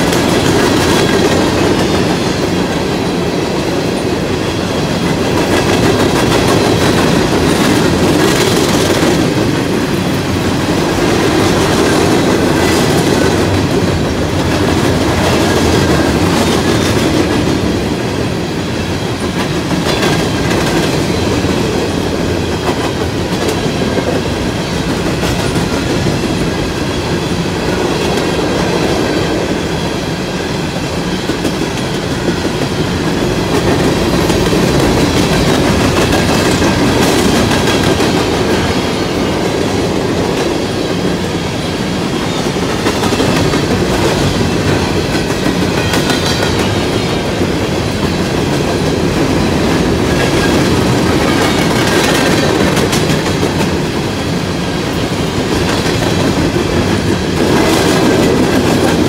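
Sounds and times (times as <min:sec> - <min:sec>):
wheels clacking over rail joints: 0:00.0 - 0:29.5, 0:30.8 - 0:41.4, 0:42.2 - 0:59.0
freight train rolling past: 0:00.0 - 0:59.0.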